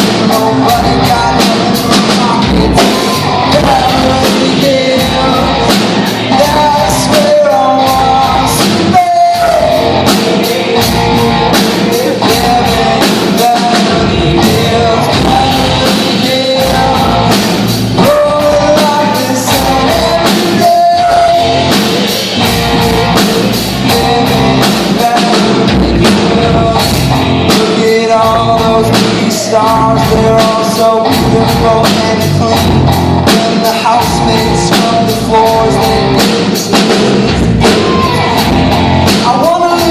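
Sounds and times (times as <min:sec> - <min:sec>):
loud rock music: 0:00.0 - 0:39.9.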